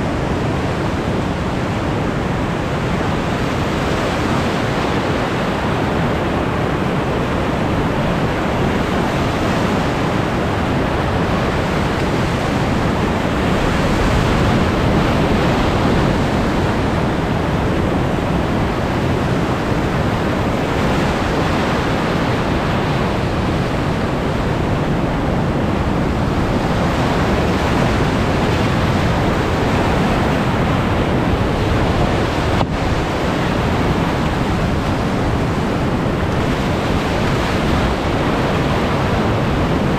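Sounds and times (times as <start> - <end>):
whitewater rapids roaring: 0.0 - 39.9.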